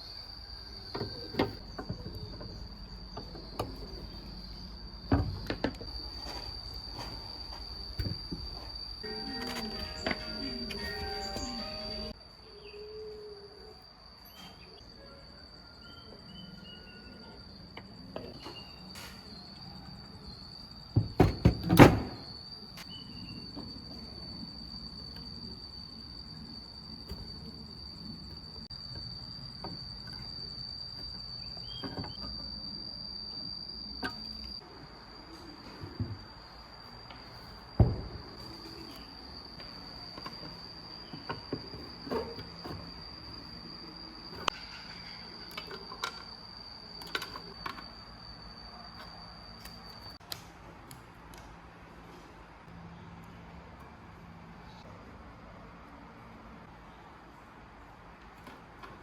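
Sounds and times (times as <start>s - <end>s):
steady high-pitched whine: 0.0s - 59.0s.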